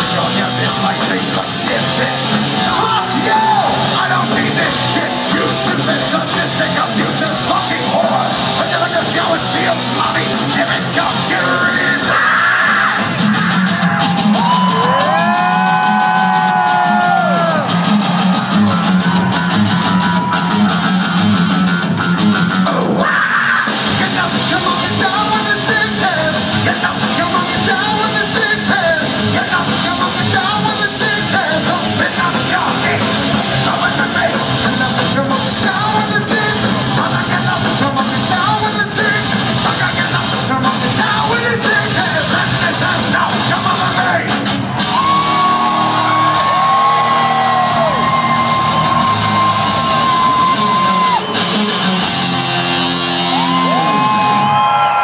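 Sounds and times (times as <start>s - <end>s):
distorted guitars: 0.0s - 55.0s
drums: 0.0s - 55.0s
yelled and sung vocals: 0.0s - 55.0s.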